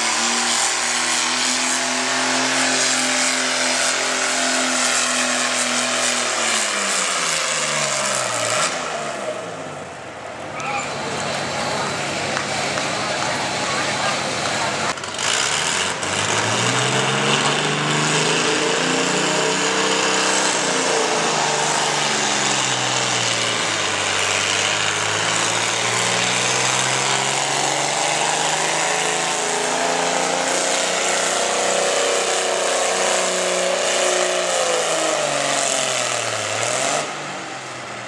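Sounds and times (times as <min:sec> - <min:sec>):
tractor engine revving loud: 0:00.0 - 0:38.0.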